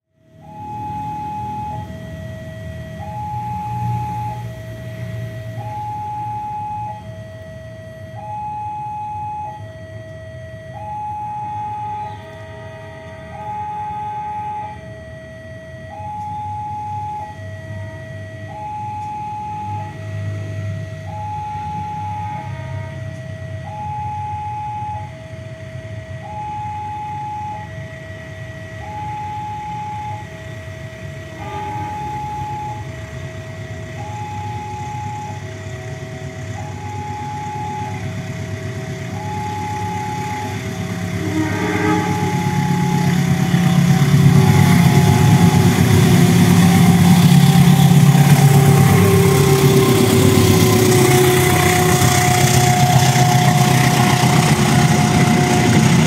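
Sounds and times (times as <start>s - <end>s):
passenger train passing: 0.3s - 6.4s, 9.6s - 16.4s, 17.2s - 18.6s, 19.6s - 23.6s, 27.6s - 56.0s
two-tone electronic warning signal: 0.3s - 56.0s.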